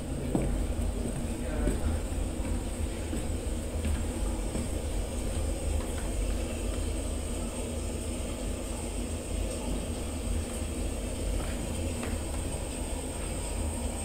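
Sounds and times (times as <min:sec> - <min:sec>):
room ambience rumble and hiss: 0:00.0 - 0:14.0.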